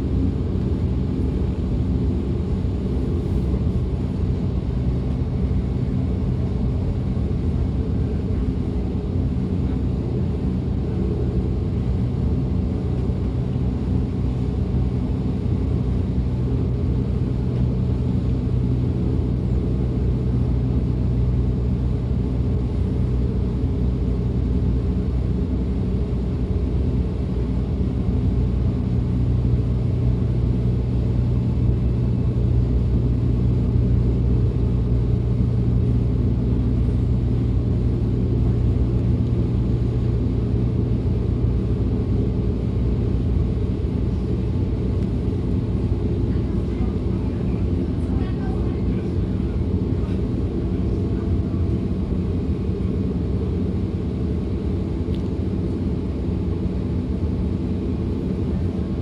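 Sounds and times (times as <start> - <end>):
constant hum: 0.0 - 59.0
train low rumble: 0.0 - 59.0.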